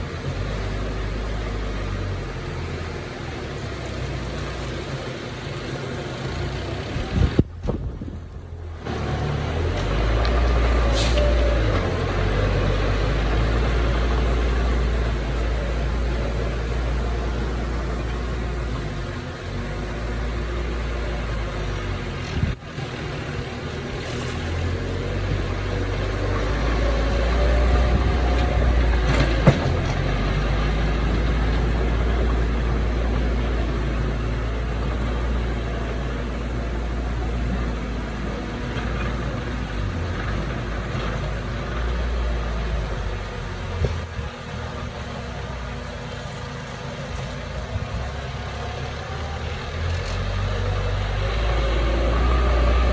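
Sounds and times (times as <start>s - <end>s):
heavy diesel machinery rumbling: 0.0s - 52.9s.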